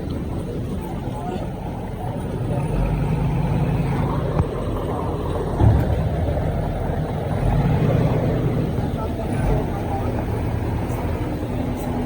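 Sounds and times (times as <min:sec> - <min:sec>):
diesel earthmoving machine running: 0:00.0 - 0:12.0.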